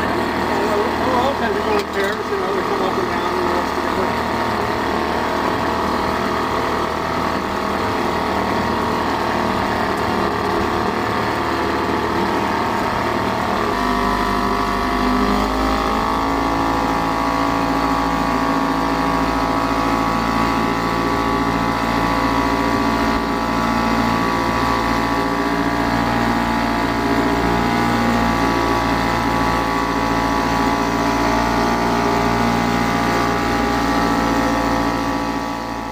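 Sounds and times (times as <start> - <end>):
outboard motor running: 0.0 - 35.9.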